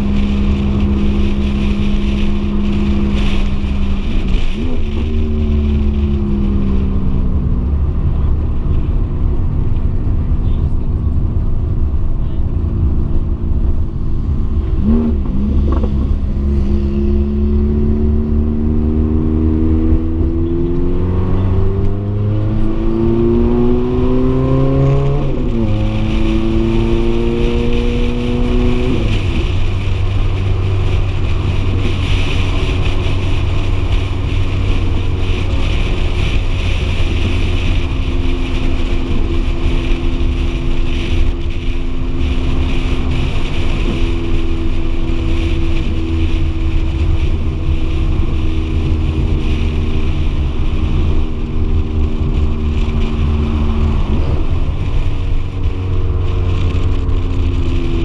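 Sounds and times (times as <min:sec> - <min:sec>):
rushing wind noise: 0:00.0 - 0:58.0
sports car engine accelerating: 0:00.0 - 0:58.0.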